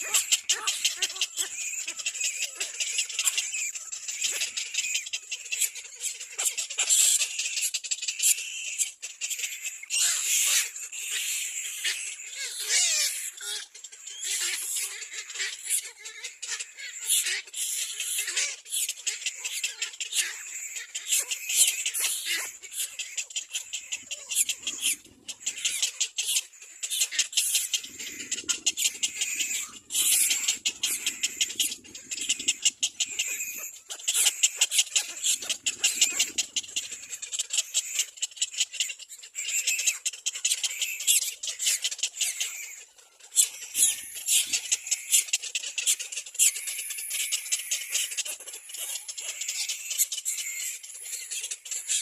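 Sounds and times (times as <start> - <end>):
chicks squeaking: 0.0 - 52.0.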